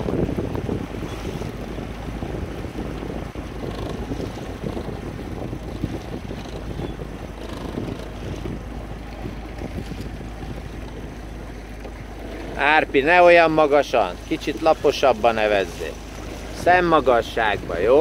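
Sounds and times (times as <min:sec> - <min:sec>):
water washing past boat: 0:00.0 - 0:18.0
wind rushing over microphone: 0:00.0 - 0:18.0.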